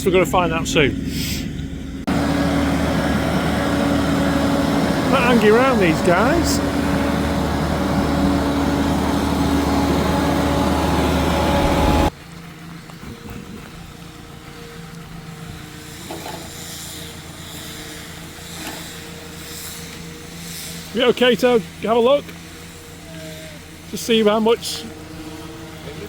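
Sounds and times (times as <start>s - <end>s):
boat lift engine drone: 0.0s - 26.0s.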